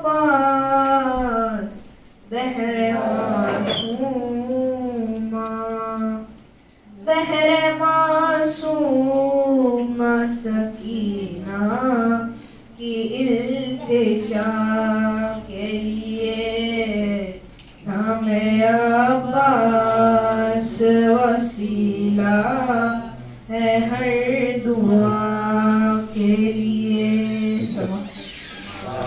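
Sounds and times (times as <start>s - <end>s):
boy chanting into a microphone: 0.0s - 28.0s.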